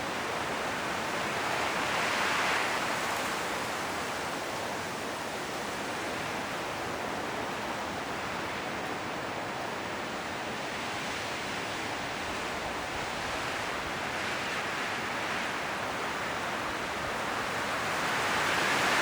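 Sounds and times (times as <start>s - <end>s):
wind blowing through trees: 0.0s - 19.0s.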